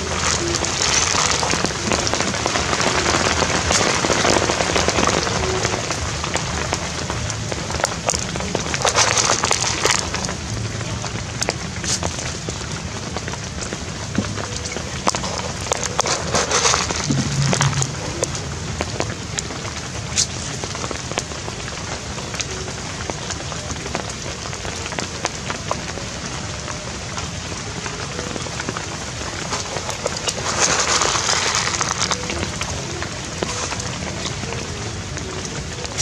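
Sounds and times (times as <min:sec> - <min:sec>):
drops ticking and dripping: 0:00.0 - 0:36.0
rain falling: 0:00.0 - 0:36.0.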